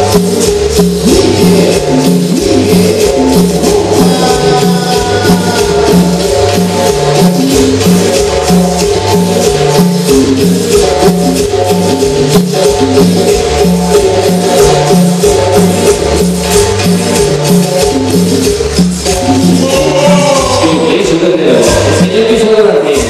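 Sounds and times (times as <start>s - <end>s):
cumbia music over sound system: 0.0s - 23.0s.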